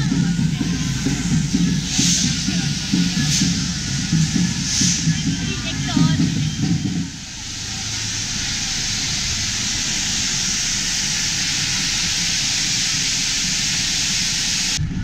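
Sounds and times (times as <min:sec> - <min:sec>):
spark fountains hissing: 0:00.0 - 0:14.8.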